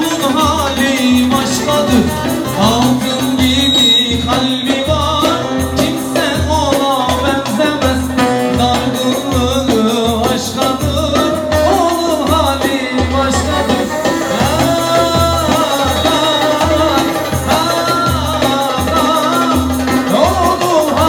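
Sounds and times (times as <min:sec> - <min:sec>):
lute and keyboard melody: 0:00.0 - 0:21.0
man singing into microphone: 0:00.0 - 0:21.0
steady drum beat: 0:00.0 - 0:21.0.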